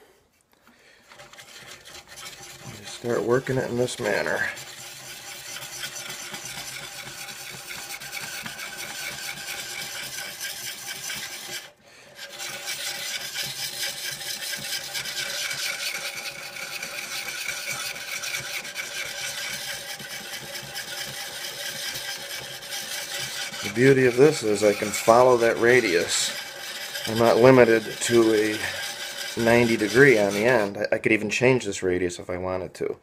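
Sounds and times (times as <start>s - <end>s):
sharpening stone scraping steel: 1.2s - 30.7s.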